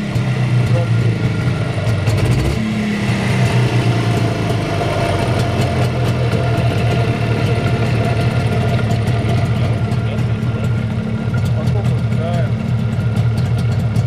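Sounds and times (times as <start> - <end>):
two-stroke engine idling: 0.0 - 14.0.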